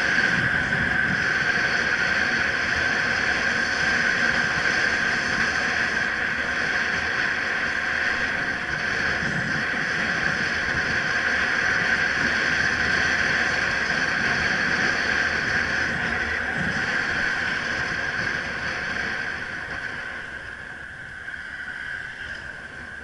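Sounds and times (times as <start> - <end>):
constant high hum: 0.0 - 23.0
road noise: 0.0 - 23.0
wind noise: 0.0 - 23.0.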